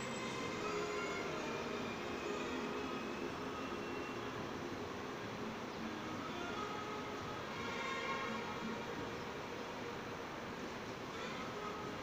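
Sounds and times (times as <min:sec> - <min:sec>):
city ambience: 0:00.0 - 0:12.0.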